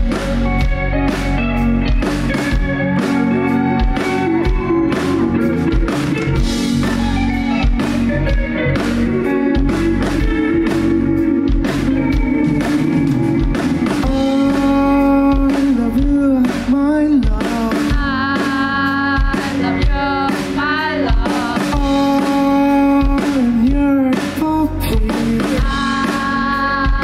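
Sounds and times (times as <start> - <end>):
drum kit beat: 0.0 - 27.0
electric guitar playing: 0.0 - 27.0.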